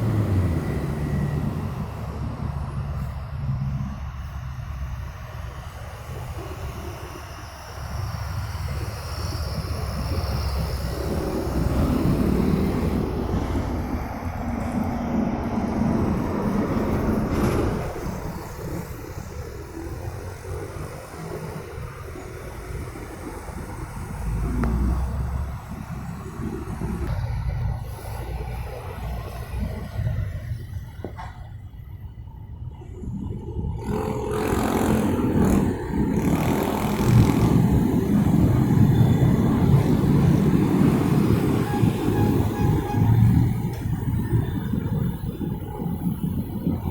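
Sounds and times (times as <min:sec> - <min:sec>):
low traffic rumble: 0:00.0 - 0:46.9
vehicle engine hum: 0:00.0 - 0:46.9.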